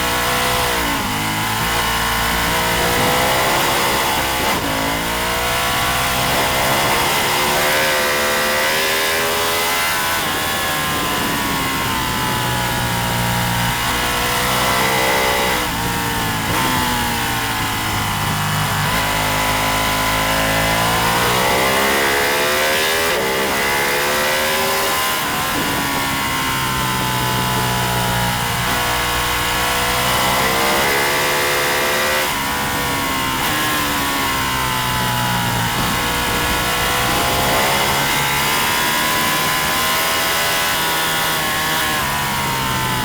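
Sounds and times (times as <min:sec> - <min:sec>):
racing motorcycle engine revving: 0:00.0 - 0:43.0.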